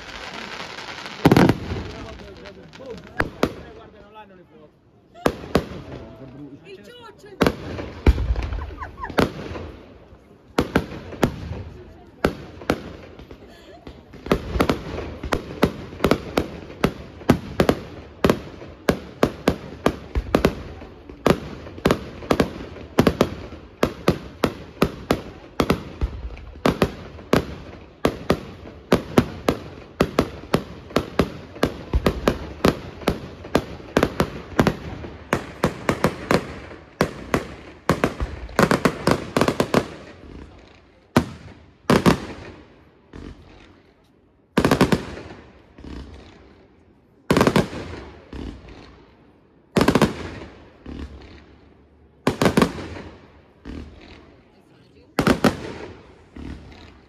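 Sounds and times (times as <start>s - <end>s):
firework bursts: 0.0s - 4.2s, 5.1s - 57.0s.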